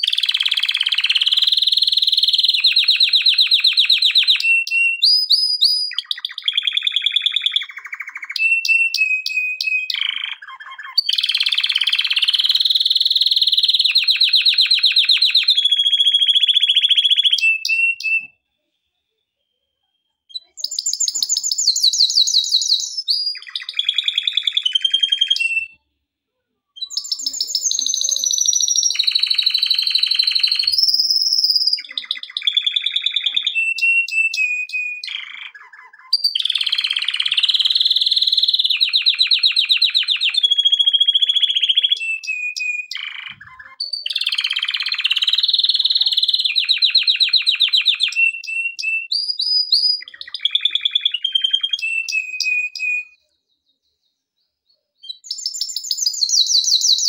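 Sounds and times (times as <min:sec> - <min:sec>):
canary singing trills: 0:00.0 - 0:18.6, 0:19.4 - 0:25.9, 0:26.7 - 0:57.0.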